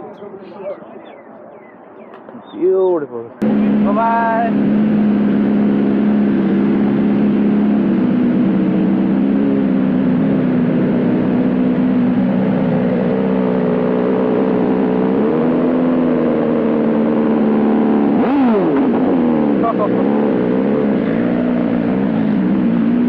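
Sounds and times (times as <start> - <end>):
motorcycle engine running: 3.4 - 23.0.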